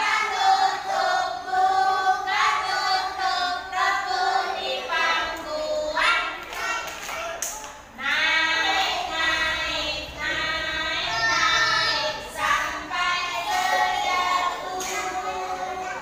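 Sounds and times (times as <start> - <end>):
children singing in chorus: 0.0 - 16.0.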